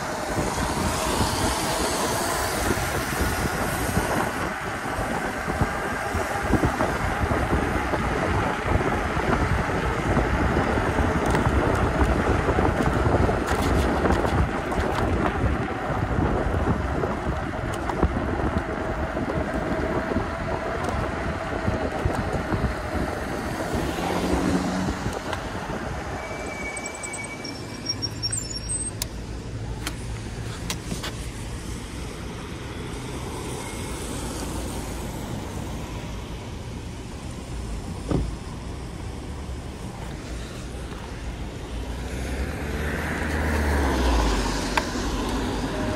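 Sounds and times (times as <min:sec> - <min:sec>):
wind rushing over microphone: 0:00.0 - 0:28.2, 0:28.9 - 0:45.9
car traffic: 0:00.0 - 0:45.9
tyre noise on wet road: 0:00.0 - 0:45.9.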